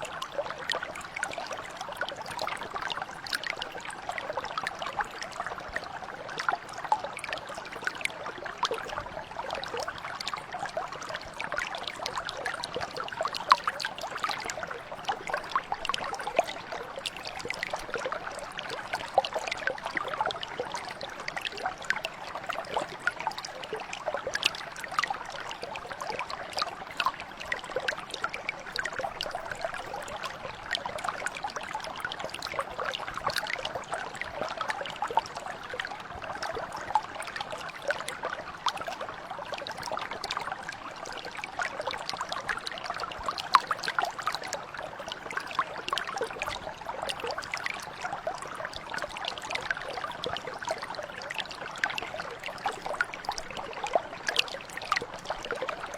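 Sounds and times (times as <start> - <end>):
brook babbling over stones: 0.0 - 55.9.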